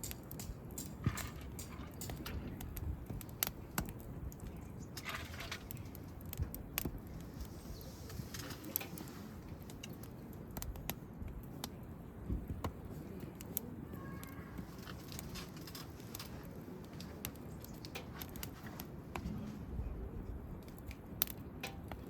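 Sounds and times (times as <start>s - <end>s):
campfire crackling and popping: 0.0s - 22.0s
fire low rumble: 0.0s - 22.0s.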